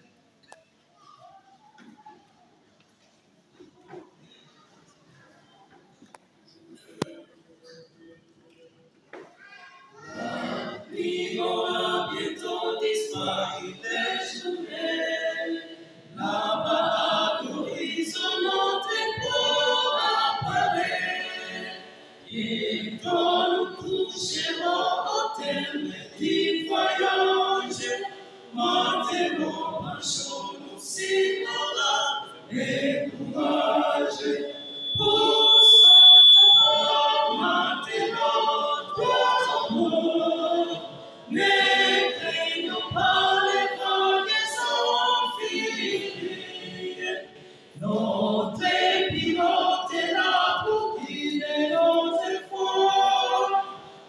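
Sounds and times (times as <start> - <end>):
men's vocal group singing: 10.2 - 53.9.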